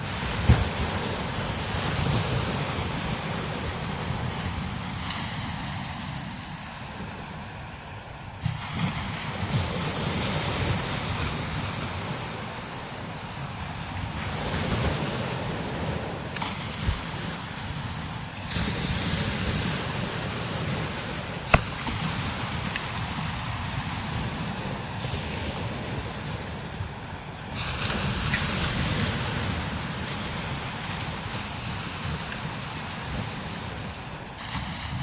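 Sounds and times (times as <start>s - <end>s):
strong wind blowing in gusts: 0.0s - 35.0s.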